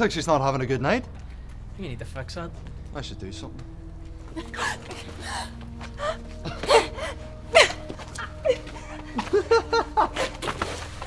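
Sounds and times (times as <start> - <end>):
low music drone: 0.0 - 11.0.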